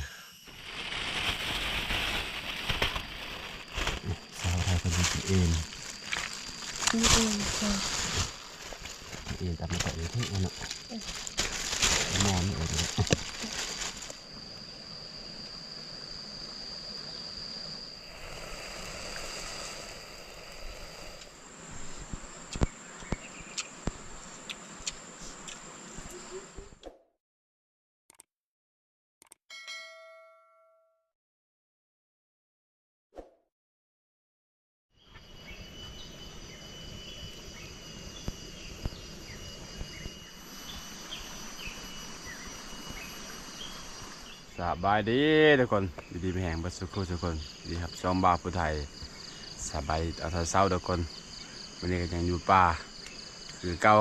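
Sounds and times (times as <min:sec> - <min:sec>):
insects high-pitched whine: 0:00.0 - 0:26.8, 0:35.0 - 0:54.0.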